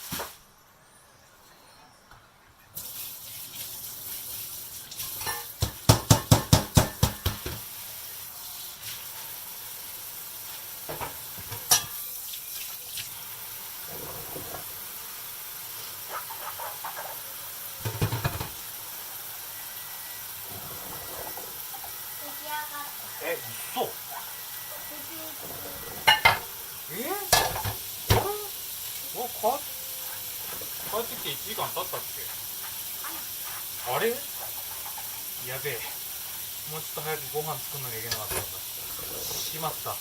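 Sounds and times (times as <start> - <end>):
food sizzling in a frying pan: 0.0 - 0.4, 2.8 - 40.0.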